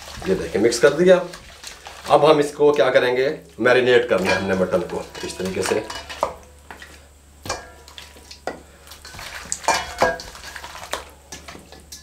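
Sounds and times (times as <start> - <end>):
wet squelches of kneading meat: 0.0 - 5.9, 6.6 - 12.0.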